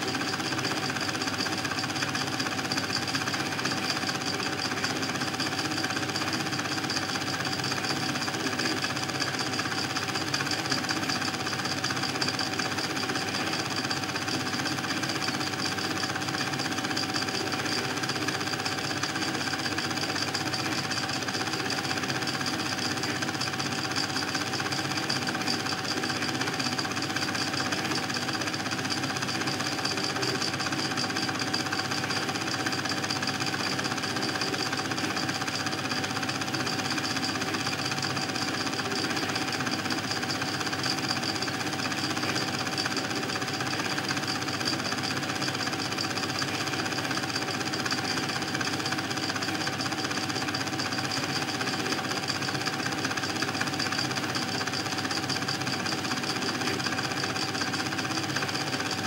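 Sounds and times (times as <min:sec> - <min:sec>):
film projector clattering: 0:00.0 - 0:59.0.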